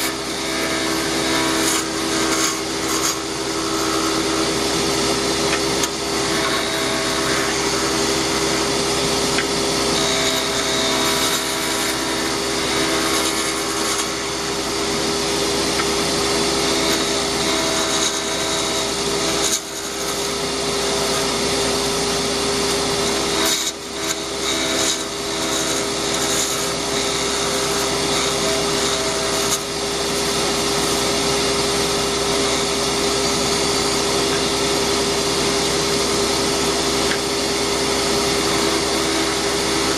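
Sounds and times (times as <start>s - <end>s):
lathe motor humming: 0.0s - 39.9s
tool rasping on spinning wood: 0.0s - 39.9s.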